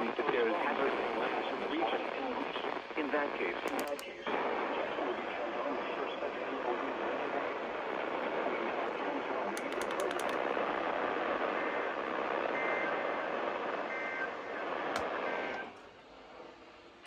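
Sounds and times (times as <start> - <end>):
radio static hissing: 0.0 - 17.0.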